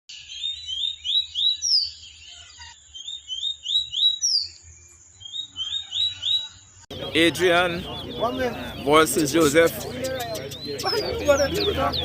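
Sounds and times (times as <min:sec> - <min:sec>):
songbird chirping song: 0:00.1 - 0:12.0.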